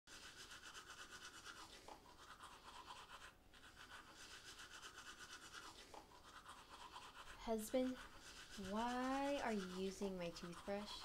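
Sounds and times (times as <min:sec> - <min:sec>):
toothbrush scrubbing teeth: 0:00.1 - 0:11.0.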